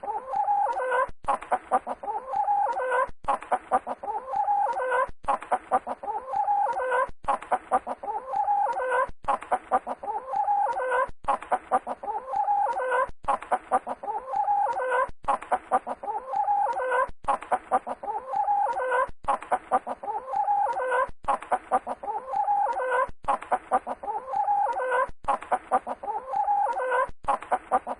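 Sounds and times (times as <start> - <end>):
animal-like call with clicks: 0.0 - 27.9.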